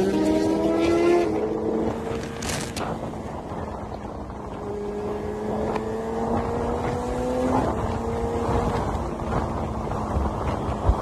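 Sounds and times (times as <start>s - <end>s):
motorcycle engine cruising: 0.0s - 11.0s
wind noise: 0.0s - 11.0s.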